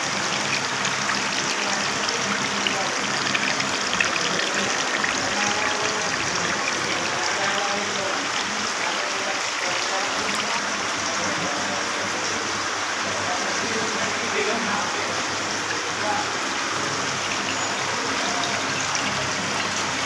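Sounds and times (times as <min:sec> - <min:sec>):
fountain water trickling: 0:00.0 - 0:20.0.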